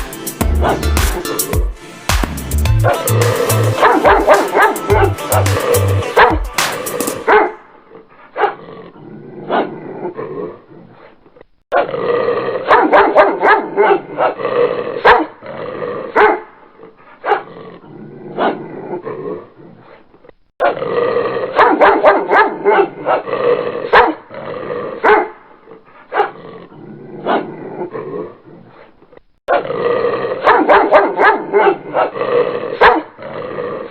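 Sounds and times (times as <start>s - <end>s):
dog barking and growling: 0.4s - 1.7s, 2.7s - 33.9s.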